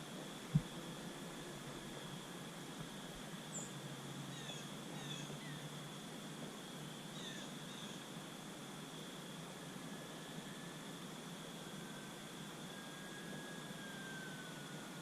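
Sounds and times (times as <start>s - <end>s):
faint high-pitched whine and hiss: 0.0s - 15.0s.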